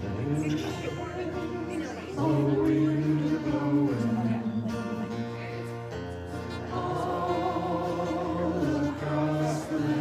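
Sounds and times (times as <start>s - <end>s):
worship band playing chords: 0.0s - 10.0s.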